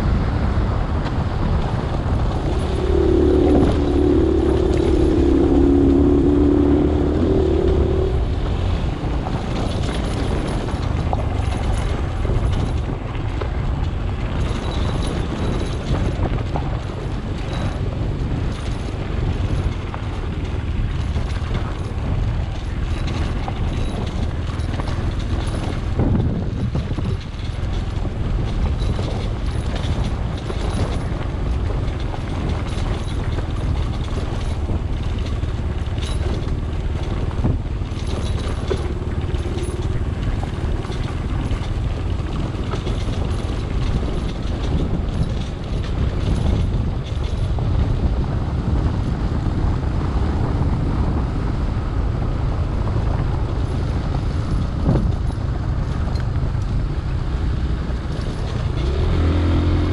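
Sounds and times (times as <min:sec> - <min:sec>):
knocks and rattles from bumps: 0:00.0 - 0:59.9
vehicle engine and road rumble: 0:00.0 - 0:59.9.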